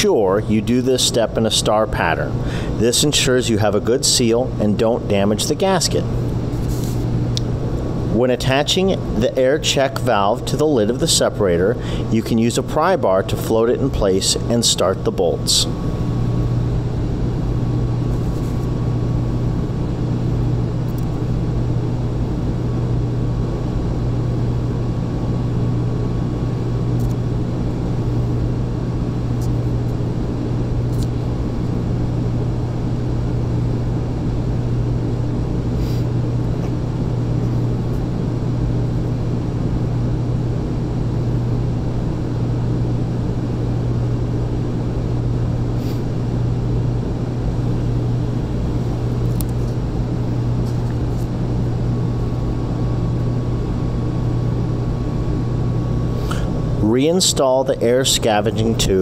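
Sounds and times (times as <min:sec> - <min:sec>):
industrial machinery humming: 0:00.0 - 0:59.0.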